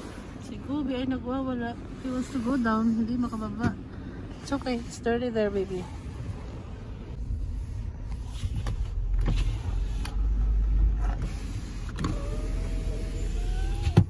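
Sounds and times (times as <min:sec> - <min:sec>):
road rumble in car cabin: 0:00.0 - 0:14.0.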